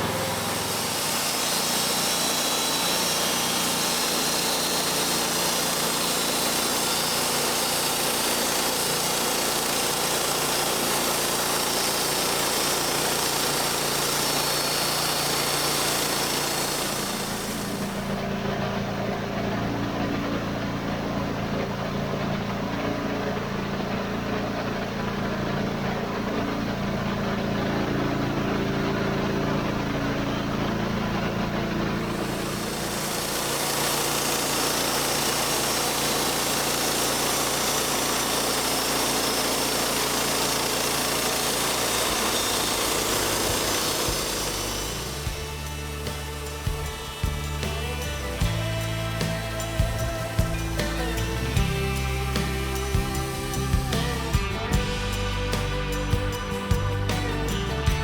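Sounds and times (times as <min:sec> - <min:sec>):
saw blade cutting log: 0:00.0 - 0:57.6
sawmill engine under load: 0:00.0 - 0:58.0.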